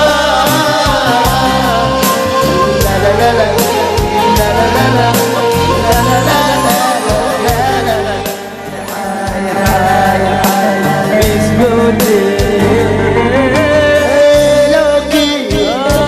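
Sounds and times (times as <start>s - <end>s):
instrumental pop music with percussion: 0.0s - 16.0s.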